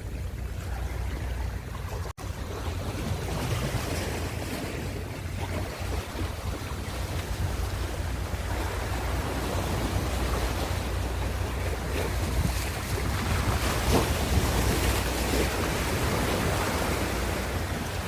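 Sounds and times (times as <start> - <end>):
ocean surf washing: 0.0 - 18.0
wind rumble on microphone: 0.0 - 18.0.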